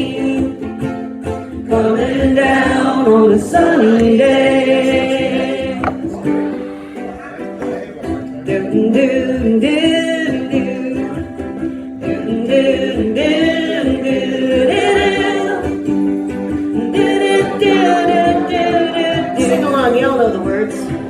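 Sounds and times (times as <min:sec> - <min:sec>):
ukulele strumming: 0:00.0 - 0:21.0
people singing: 0:01.6 - 0:11.3, 0:12.0 - 0:16.0, 0:16.6 - 0:21.0.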